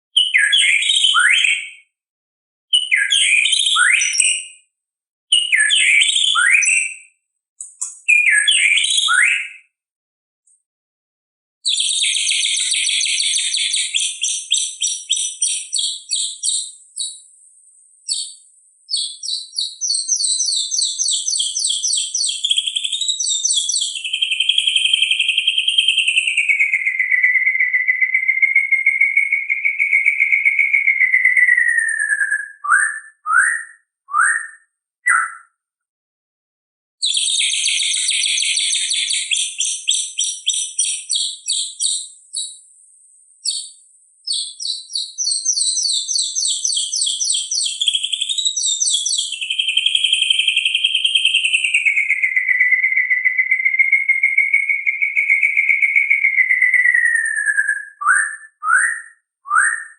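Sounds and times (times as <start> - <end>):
bird singing trills and whistles: 0.1 - 1.9, 2.7 - 4.7, 5.3 - 9.8, 11.6 - 17.3, 18.0 - 35.6, 37.0 - 42.7, 43.4 - 59.9.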